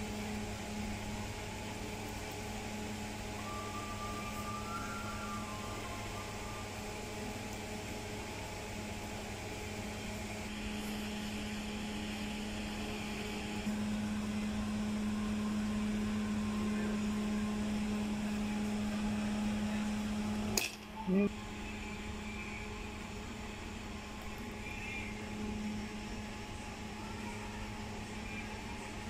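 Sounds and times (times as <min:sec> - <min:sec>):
electric blower fan hum: 0:00.0 - 0:29.0.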